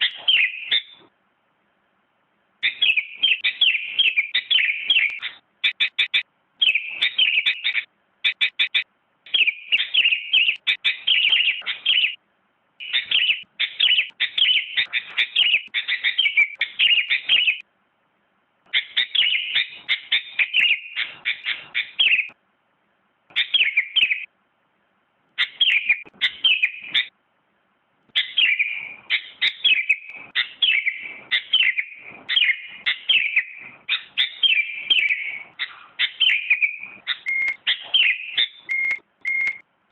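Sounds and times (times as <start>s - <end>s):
bird chirping rapidly: 0.0s - 1.1s, 2.6s - 12.2s, 12.8s - 17.7s, 18.7s - 22.4s, 23.3s - 24.3s, 25.4s - 27.2s, 28.1s - 39.6s.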